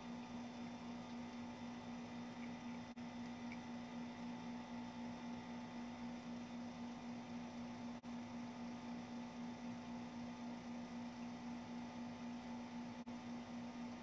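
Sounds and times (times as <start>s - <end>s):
air conditioner unit humming: 0.0s - 14.0s.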